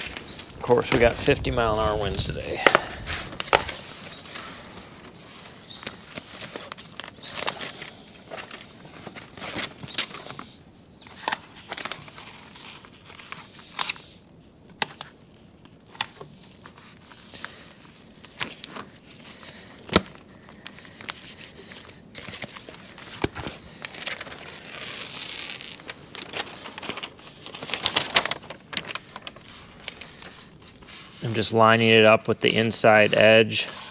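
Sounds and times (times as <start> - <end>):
tape and paper liner crinkling: 0.0 - 33.9
tape tearing hiss: 2.1 - 14.2, 14.8 - 31.5.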